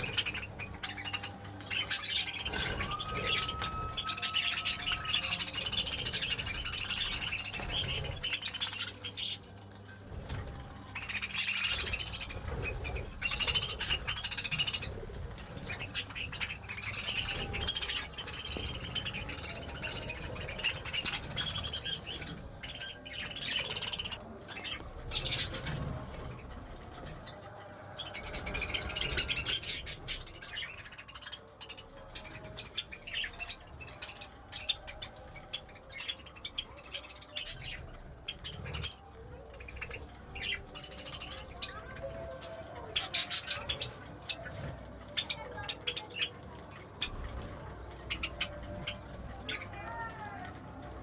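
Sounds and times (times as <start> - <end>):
pet birds chattering and chirping: 0.0 - 51.0.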